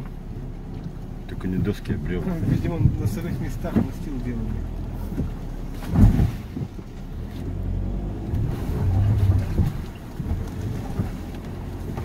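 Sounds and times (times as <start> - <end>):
engine and tyre rumble: 0.0 - 12.0
suspension knocks: 0.0 - 12.0.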